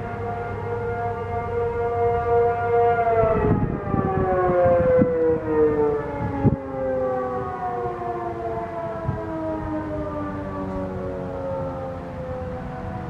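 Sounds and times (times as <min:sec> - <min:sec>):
tornado siren winding down: 0:00.0 - 0:13.0.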